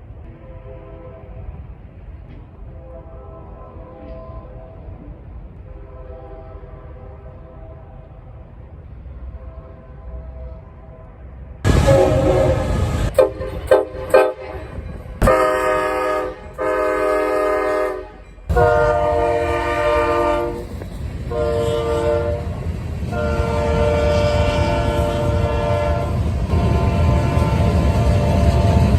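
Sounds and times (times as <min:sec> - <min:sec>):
passing train rumble: 0:00.0 - 0:28.9
locomotive air horn blasts: 0:00.3 - 0:01.5, 0:02.7 - 0:04.9, 0:05.7 - 0:08.0, 0:09.3 - 0:20.7, 0:21.3 - 0:28.9.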